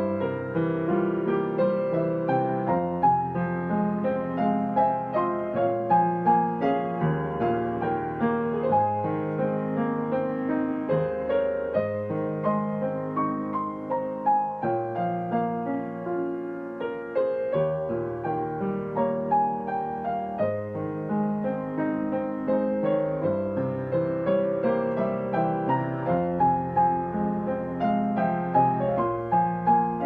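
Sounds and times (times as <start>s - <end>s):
solo piano melody: 0.0s - 30.0s.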